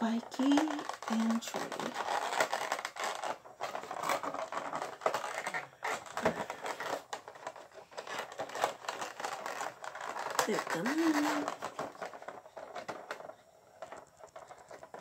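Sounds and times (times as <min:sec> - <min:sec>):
cardboard box being opened: 0:00.4 - 0:13.3.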